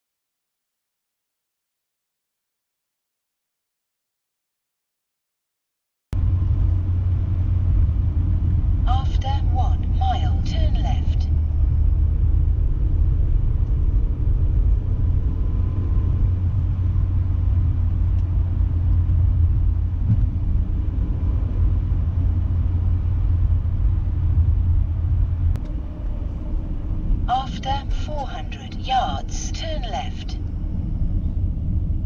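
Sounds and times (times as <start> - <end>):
car driving rumble: 6.2 - 32.0.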